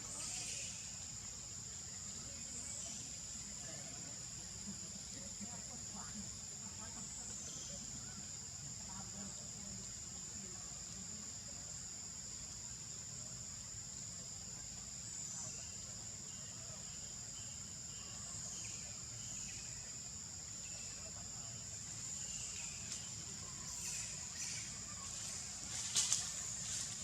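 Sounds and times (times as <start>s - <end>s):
insects droning high-pitched buzz: 0.0s - 27.0s.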